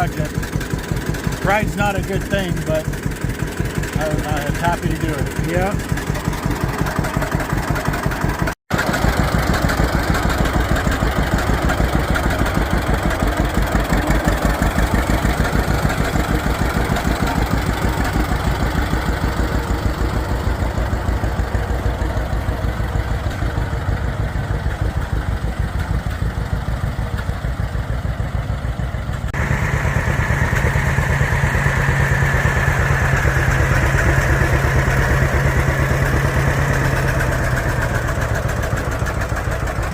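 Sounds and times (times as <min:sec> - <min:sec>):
tractor engine putt-putt: 0:00.0 - 0:39.9.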